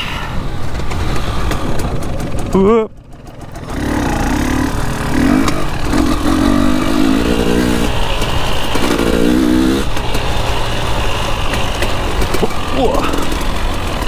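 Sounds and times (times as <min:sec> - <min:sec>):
dirt bike engine revving: 0:00.6 - 0:14.0.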